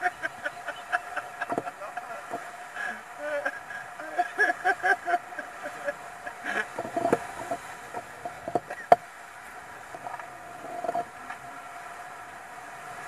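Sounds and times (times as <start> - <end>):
rush of wind and water: 0.0 - 13.0.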